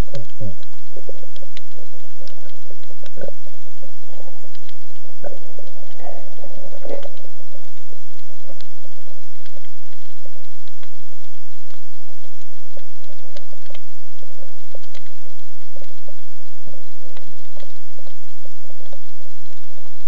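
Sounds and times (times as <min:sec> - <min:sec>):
low hum: 0:00.0 - 0:20.0
sharp clicks and crackles: 0:00.0 - 0:20.0.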